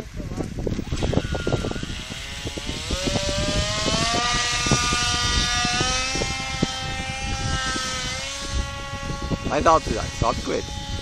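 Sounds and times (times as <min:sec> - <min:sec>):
model aircraft motor and propeller whining: 0:00.0 - 0:11.0.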